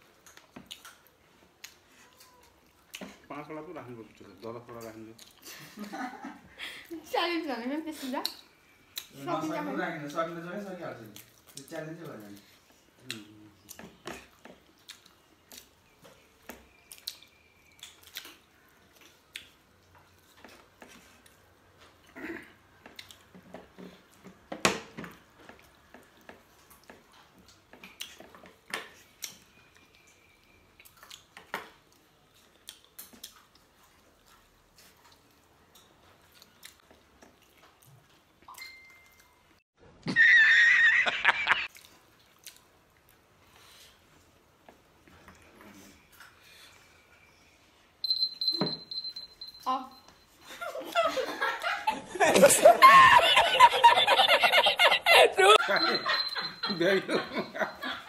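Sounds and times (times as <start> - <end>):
people chewing and eating: 0.0 - 7.1, 7.8 - 39.6, 41.6 - 58.0.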